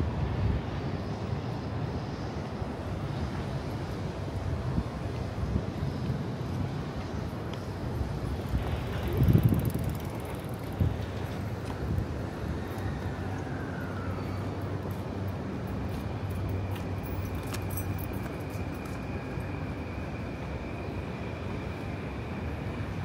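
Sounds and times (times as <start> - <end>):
faint high whine: 0.0 - 23.0
low traffic rumble: 0.0 - 23.0.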